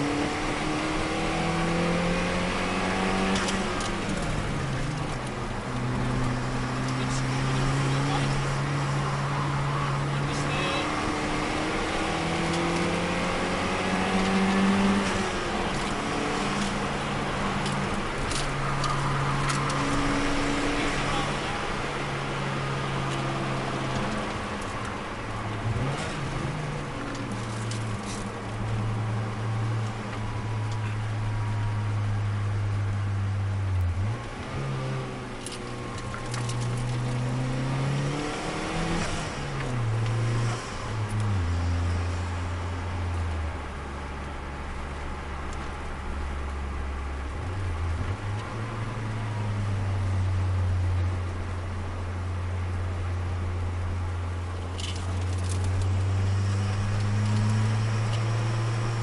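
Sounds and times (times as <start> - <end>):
car engine under load: 0.0 - 59.0
road and tyre noise: 0.0 - 59.0.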